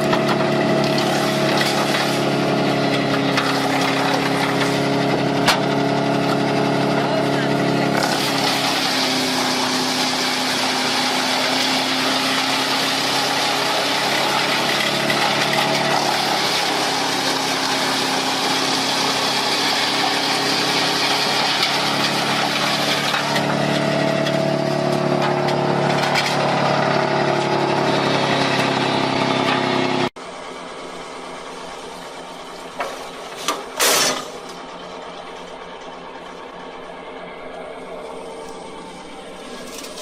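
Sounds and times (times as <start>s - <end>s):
wood chipper engine running: 0.0s - 40.0s.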